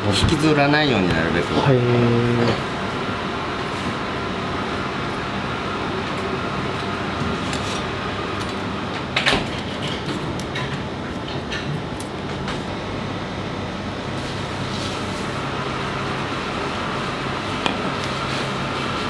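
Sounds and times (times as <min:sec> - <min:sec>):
kitchen equipment hum: 0:00.0 - 0:19.0.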